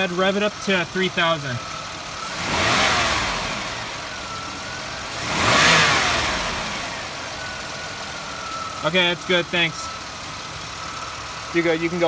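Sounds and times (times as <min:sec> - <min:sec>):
car engine revving from idle: 0:00.0 - 0:12.0.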